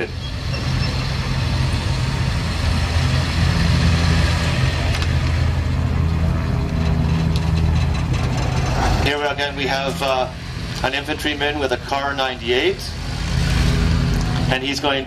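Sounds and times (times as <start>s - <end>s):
tracked vehicle engine running: 0.0s - 15.0s.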